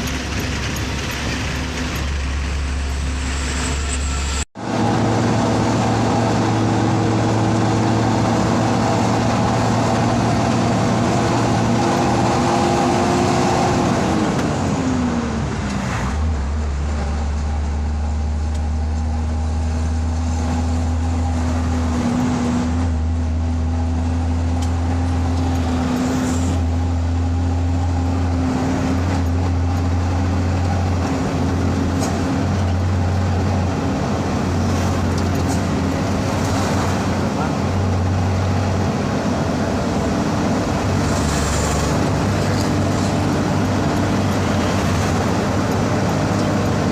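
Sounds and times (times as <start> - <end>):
road noise: 0.0 - 46.9
truck engine running: 0.0 - 46.9.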